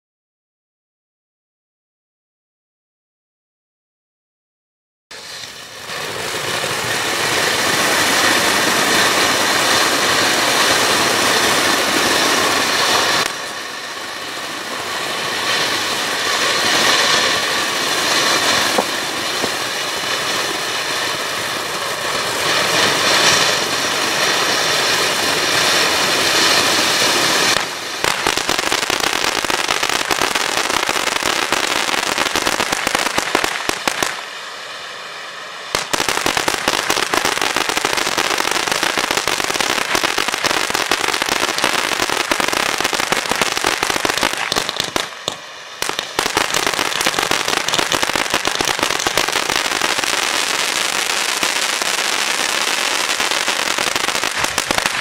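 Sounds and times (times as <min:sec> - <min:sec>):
firework crackling: 0:05.1 - 0:55.0
firework fountain spraying sparks: 0:05.1 - 0:55.0.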